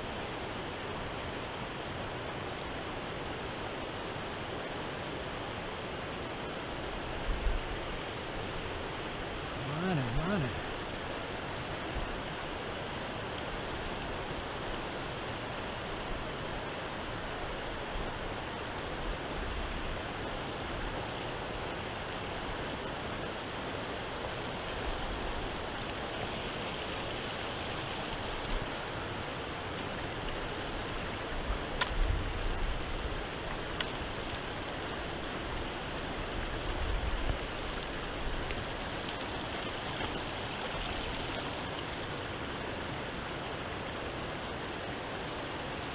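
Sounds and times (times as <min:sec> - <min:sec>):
river water rushing over stones: 0:00.0 - 0:45.9.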